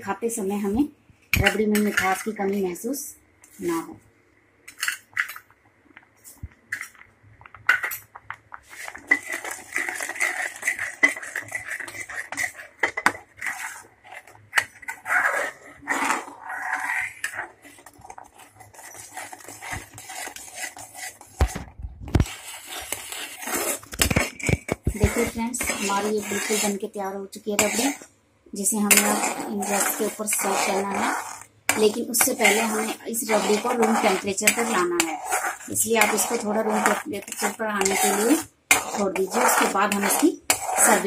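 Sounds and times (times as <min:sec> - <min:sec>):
spoon scraping metal pan: 0:01.4 - 0:02.7, 0:07.6 - 0:41.0.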